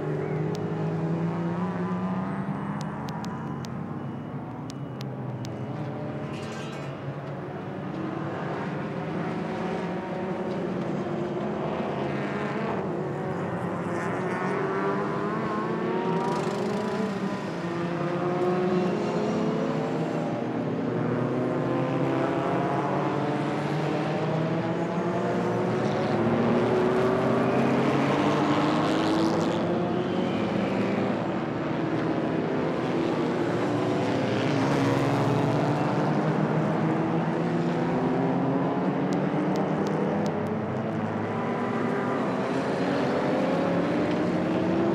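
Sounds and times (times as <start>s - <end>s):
racing car engines revving: 0.0s - 4.8s, 5.4s - 44.9s.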